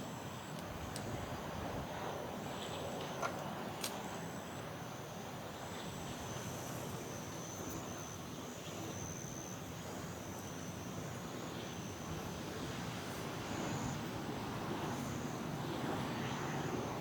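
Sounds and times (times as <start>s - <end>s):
crickets trilling: 0.1s - 17.0s.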